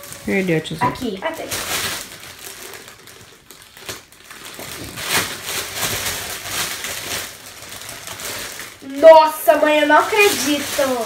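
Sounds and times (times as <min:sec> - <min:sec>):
wrapping paper tearing and crinkling: 0:00.0 - 0:11.0.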